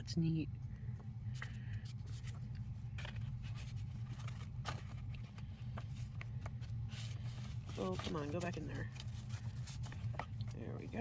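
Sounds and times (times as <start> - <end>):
steady low hum: 0.0 - 11.0
paper and plastic packaging rustling: 1.3 - 11.0.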